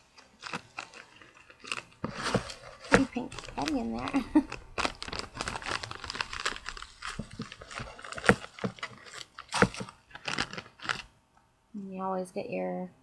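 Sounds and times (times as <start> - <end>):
packaging rustling and crinkling: 0.0 - 11.1.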